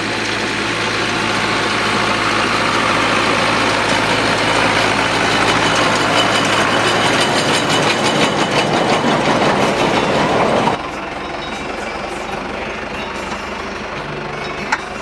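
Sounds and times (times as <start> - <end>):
baler clattering and ticking: 0.0 - 15.0
tractor engine running: 0.0 - 15.0.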